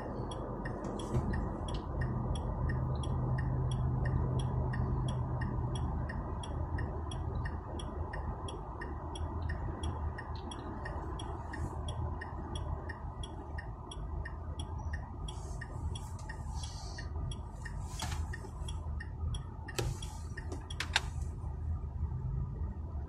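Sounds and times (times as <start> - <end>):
low hum of car driving: 0.0 - 23.0
turn signal ticking: 0.0 - 23.0.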